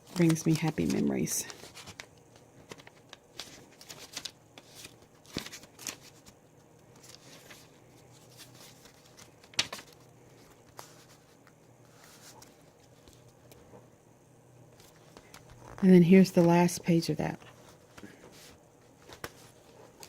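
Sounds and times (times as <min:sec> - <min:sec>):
paper rustling: 0:00.0 - 0:13.8, 0:17.4 - 0:20.0.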